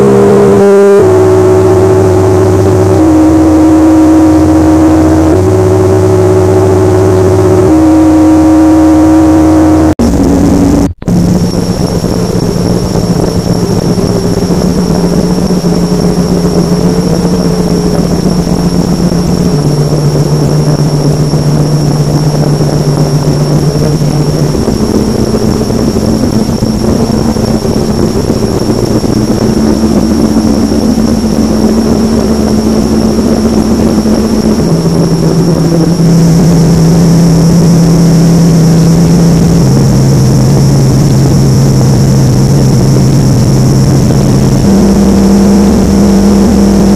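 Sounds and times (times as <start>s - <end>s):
distorted alarm drone: 0.0s - 46.9s
faint high whine: 0.0s - 46.9s
heavy rumble: 0.0s - 46.9s.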